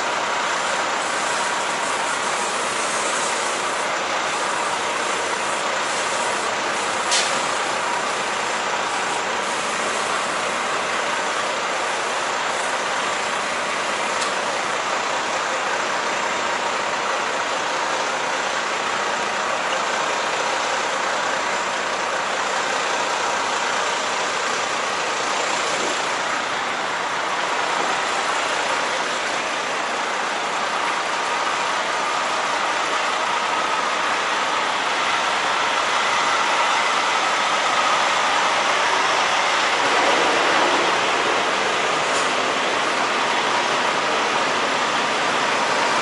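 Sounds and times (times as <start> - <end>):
semi-truck running: 0.0 - 46.0.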